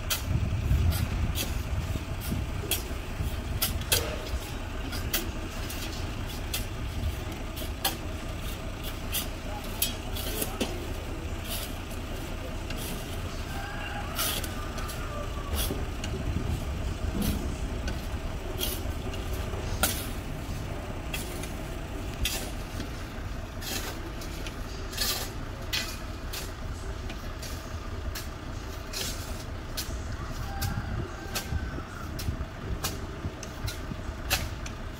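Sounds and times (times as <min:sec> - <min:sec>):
steady low rumble: 0:00.0 - 0:34.9
shovels scraping sand: 0:00.1 - 0:15.8, 0:16.5 - 0:30.1.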